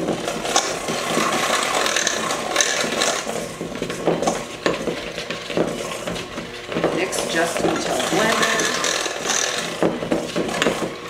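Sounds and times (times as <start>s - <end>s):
beaters knocking on bowl: 0.0s - 11.0s
electric hand mixer running: 0.0s - 11.0s.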